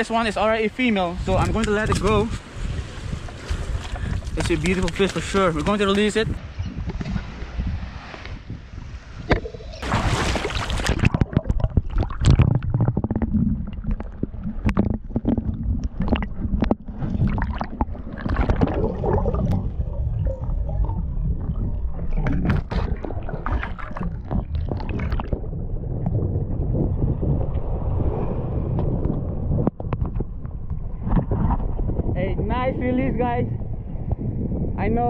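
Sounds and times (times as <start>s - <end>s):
seawater splashing and gurgling: 1.2s - 32.2s
muffled underwater rumble: 1.2s - 35.0s.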